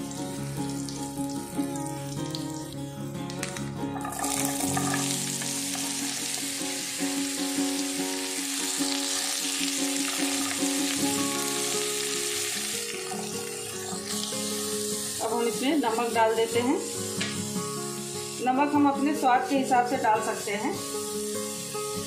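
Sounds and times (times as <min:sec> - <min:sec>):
vegetables sizzling in hot oil: 0:04.0 - 0:22.0.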